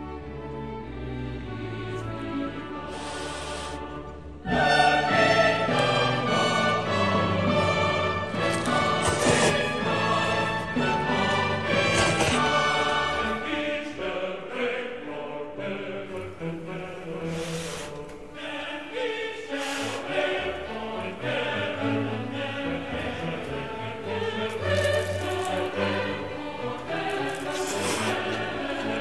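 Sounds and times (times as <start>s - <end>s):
background music with held notes: 0.0s - 29.0s.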